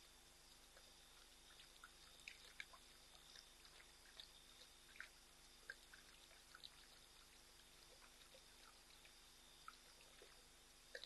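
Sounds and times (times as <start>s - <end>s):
faint high whine: 0.0s - 11.0s
animal lapping water: 0.6s - 11.0s.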